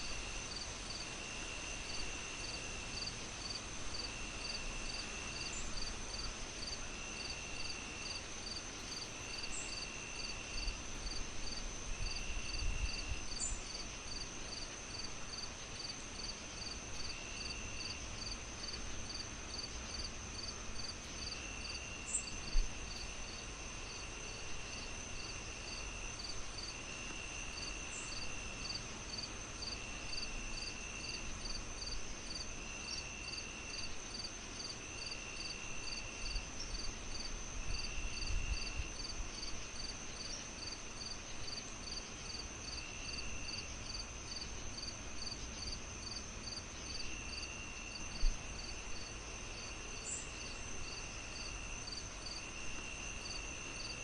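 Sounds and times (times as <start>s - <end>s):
crickets chirping: 0.0s - 54.0s
lower insect trill: 0.0s - 54.0s
high-pitched insect trill: 1.9s - 54.0s.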